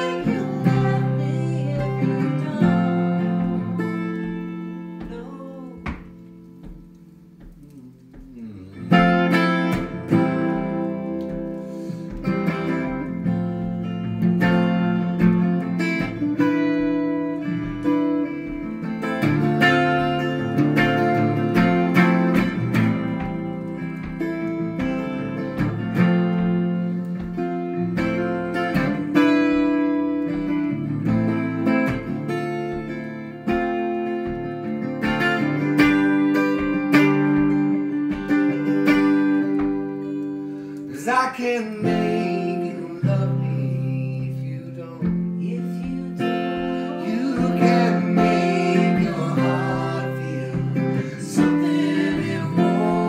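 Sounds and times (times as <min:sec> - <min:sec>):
guitar strummed and picked: 0:00.0 - 0:53.0.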